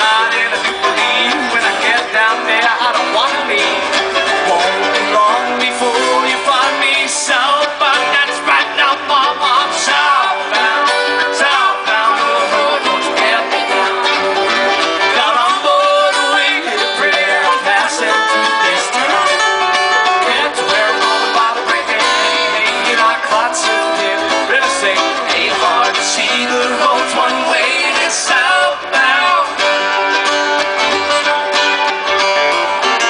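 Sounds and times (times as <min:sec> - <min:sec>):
bluegrass string band: 0:00.0 - 0:33.0.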